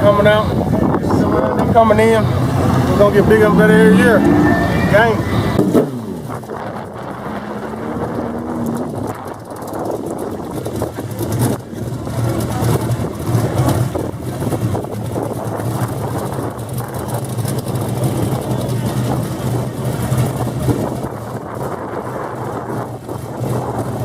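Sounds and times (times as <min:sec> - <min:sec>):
car engine running: 0:00.0 - 0:24.0
outdoor noise: 0:00.0 - 0:24.0.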